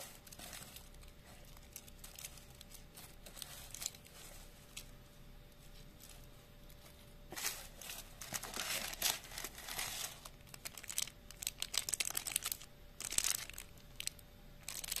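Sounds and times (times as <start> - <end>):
paper and wrappers crinkling: 0.0 - 15.0.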